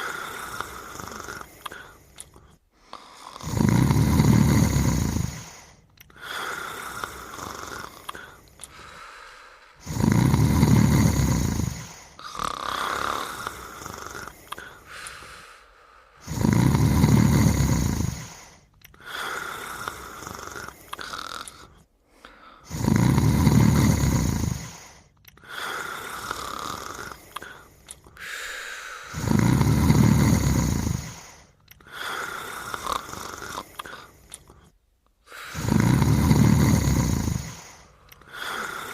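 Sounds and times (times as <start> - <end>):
loud low snoring: 0.0 - 2.1, 2.8 - 9.1, 9.7 - 14.9, 16.2 - 34.6, 35.3 - 38.9
soft breath: 0.0 - 3.4, 4.3 - 16.3, 17.2 - 22.7, 23.6 - 38.9.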